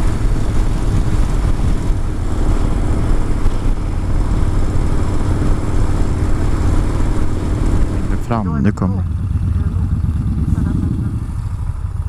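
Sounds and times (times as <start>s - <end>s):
motorcycle engine running: 0.0s - 12.0s
wind noise: 0.0s - 12.0s.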